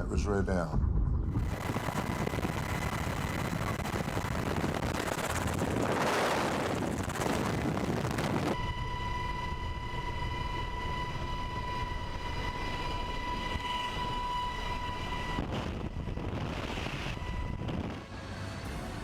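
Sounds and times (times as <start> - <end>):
wind rushing over microphone: 0.0 - 9.1, 9.9 - 19.0.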